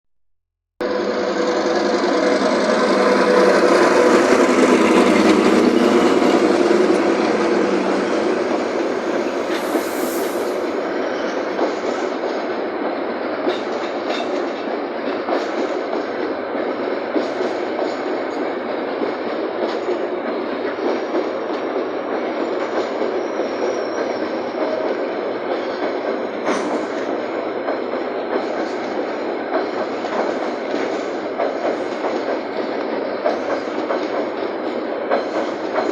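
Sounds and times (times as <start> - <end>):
diesel locomotive engine: 0.8 - 35.9
train wheels clacking over rail joints: 1.3 - 9.8, 11.4 - 35.9.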